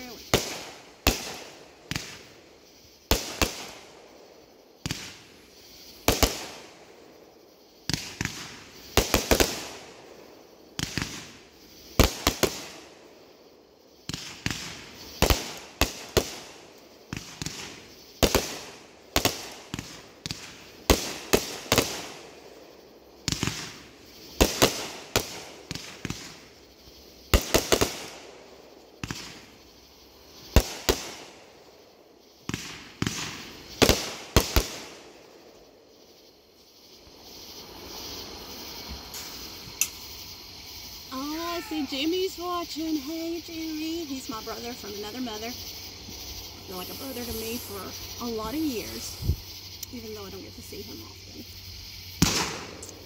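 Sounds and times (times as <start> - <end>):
fireworks bangs: 0.0 - 13.3, 13.9 - 36.0, 36.9 - 53.0.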